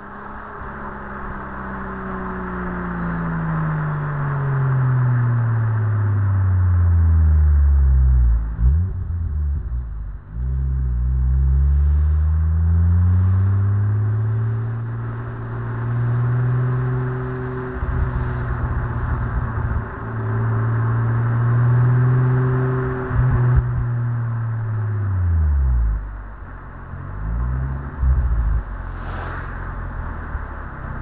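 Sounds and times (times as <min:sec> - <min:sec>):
car engine and exhaust revving: 0:00.0 - 0:31.0.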